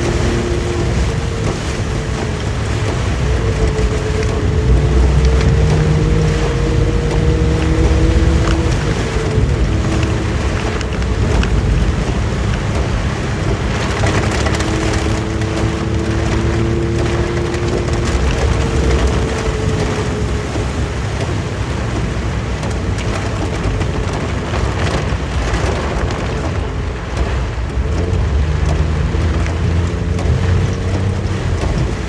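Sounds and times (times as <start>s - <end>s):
heavy rain: 0.0s - 32.0s
road noise: 0.0s - 32.0s.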